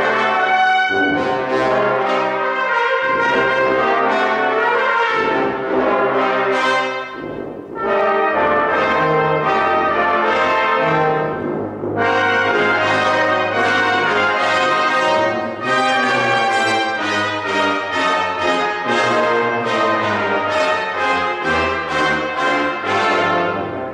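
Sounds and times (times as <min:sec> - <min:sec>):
brass band playing: 0:00.0 - 0:23.9.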